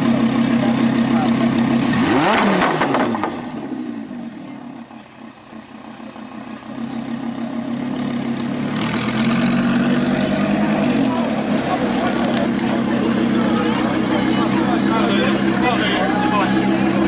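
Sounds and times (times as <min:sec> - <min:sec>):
sports car engine revving: 0:00.0 - 0:17.0.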